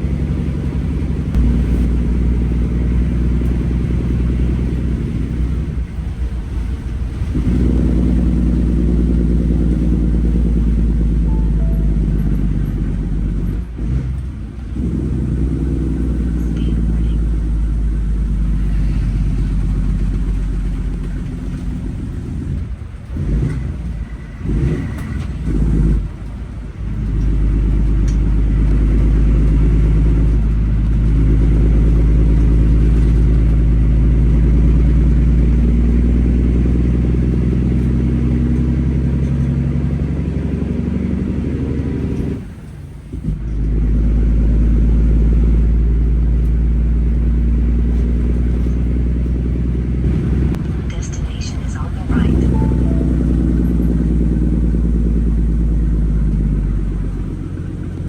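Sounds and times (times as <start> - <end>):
diesel truck engine rumbling: 0.0 - 58.0.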